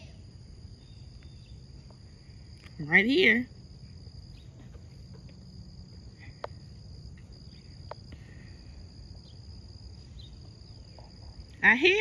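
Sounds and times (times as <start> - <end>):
insects droning: 0.0 - 12.0
low outdoor rumble: 0.0 - 12.0.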